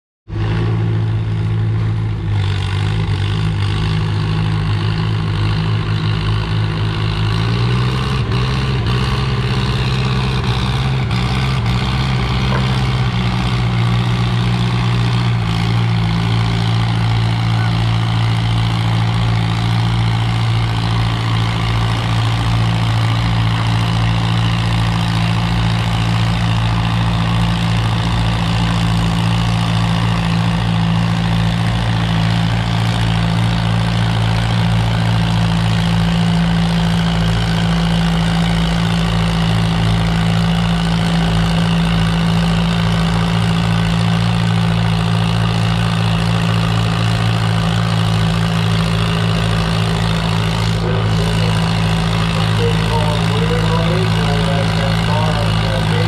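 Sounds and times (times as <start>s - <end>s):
tractor engine droning: 0.3s - 56.0s.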